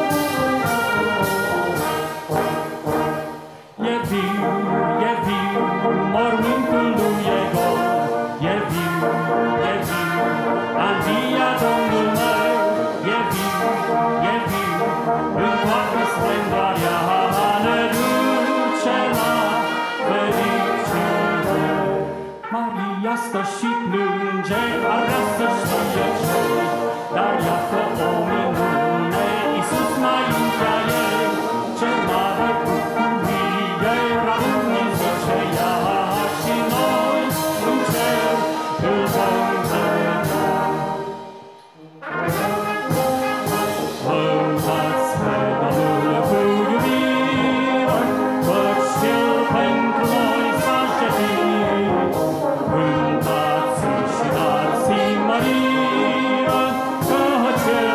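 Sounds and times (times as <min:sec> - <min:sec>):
brass band playing a hymn: 0:00.0 - 0:57.9.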